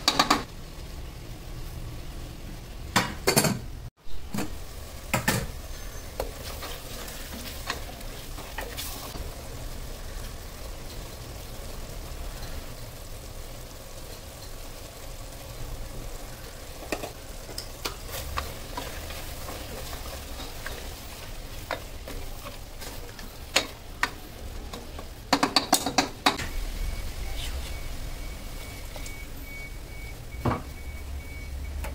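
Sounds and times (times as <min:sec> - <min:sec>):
curry sizzling in a pot: 0:00.0 - 0:31.9.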